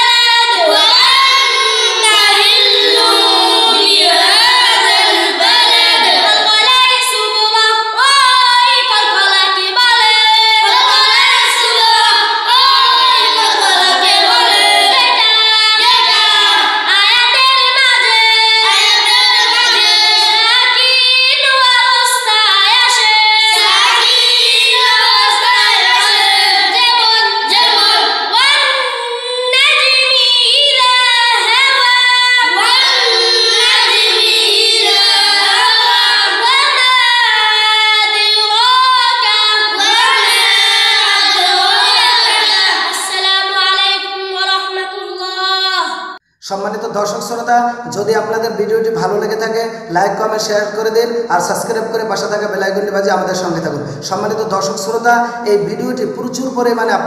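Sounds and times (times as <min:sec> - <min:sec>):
children chanting in sing-song melody: 0:00.0 - 0:46.2.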